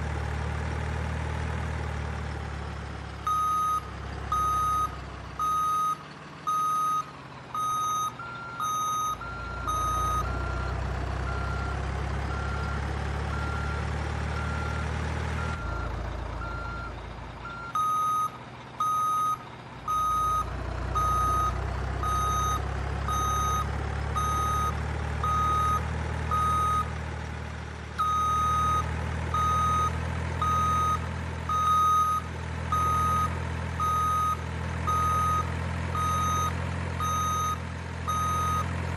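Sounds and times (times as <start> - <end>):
diesel truck engine rumble: 0.0 - 38.9
reversing alarm beeping: 3.3 - 13.8, 15.4 - 26.9, 28.0 - 38.7.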